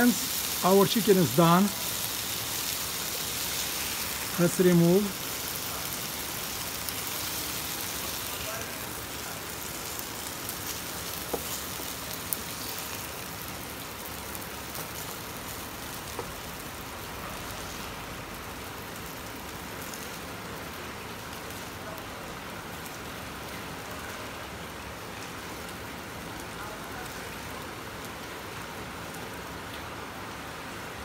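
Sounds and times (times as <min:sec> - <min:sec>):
oil sizzling in frying pan: 0:00.0 - 0:26.8.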